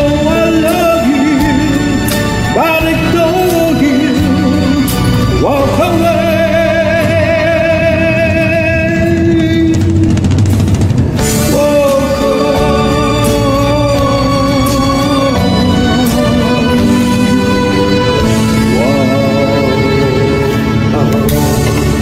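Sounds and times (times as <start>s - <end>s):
person singing karaoke: 0.0s - 10.4s, 11.2s - 22.0s
music backing track: 0.0s - 22.0s.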